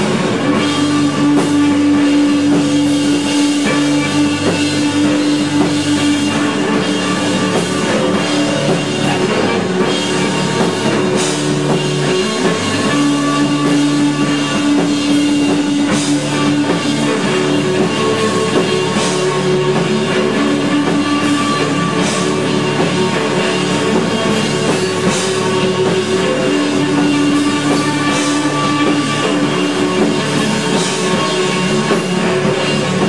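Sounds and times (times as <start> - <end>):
live rock band playing: 0.0 - 33.0
loud drum hit: 0.0 - 33.0.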